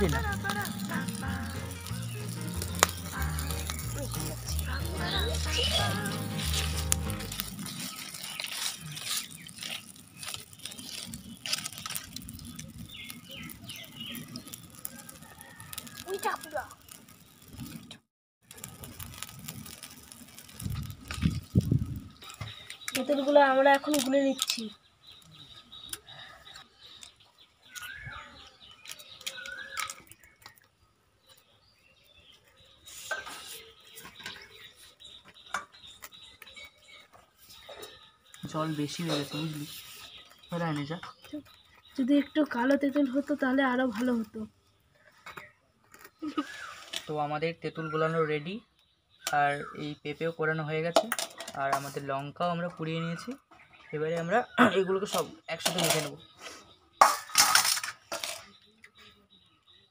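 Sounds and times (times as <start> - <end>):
bird chirping: 0.0 - 17.8, 20.5 - 59.9
leaf fire crackling and popping: 0.0 - 59.0.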